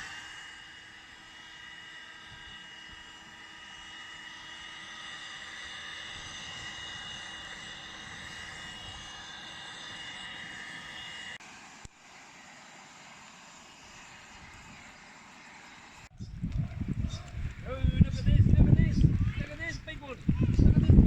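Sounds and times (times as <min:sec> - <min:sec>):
electric blower fan whining: 0:00.0 - 0:21.0.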